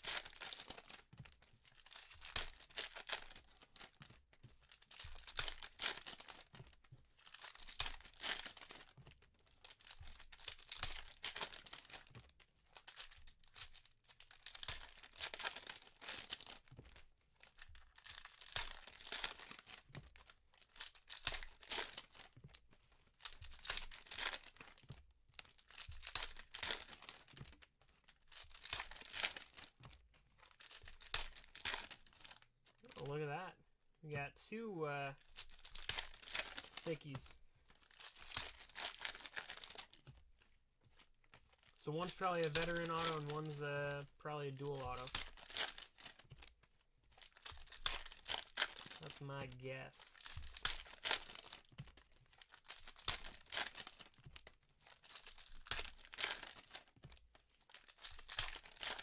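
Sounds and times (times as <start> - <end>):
foil wrappers tearing and crinkling: 0.0 - 9.0, 9.6 - 33.1, 35.1 - 40.2, 41.0 - 59.0.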